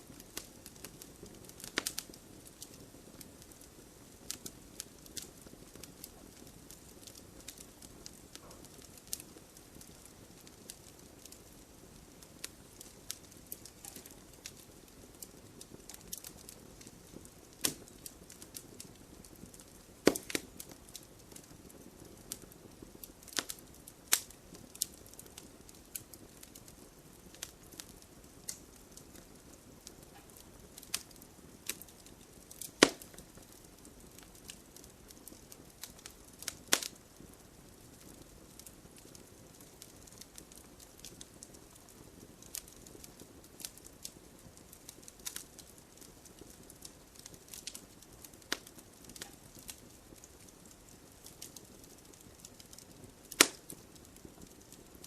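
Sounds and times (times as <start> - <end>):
campfire pops and snaps: 0.0 - 55.0
steady rush of burning fire: 0.0 - 55.0.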